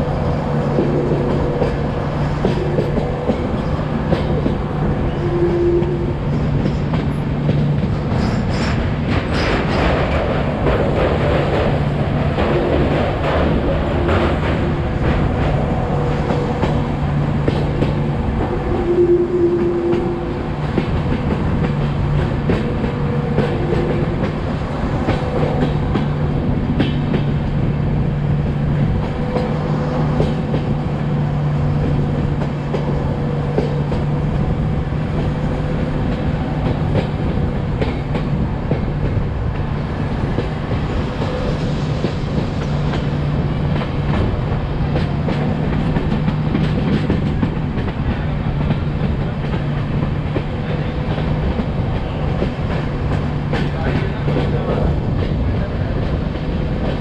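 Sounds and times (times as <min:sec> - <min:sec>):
train rumbling on track: 0:00.0 - 0:57.0.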